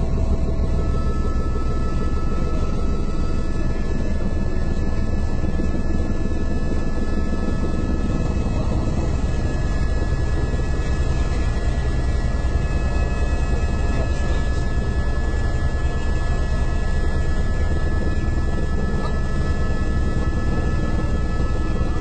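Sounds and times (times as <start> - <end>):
helicopter engine and rotor drone: 0.0 - 22.0
high-pitched whine tones: 0.0 - 22.0.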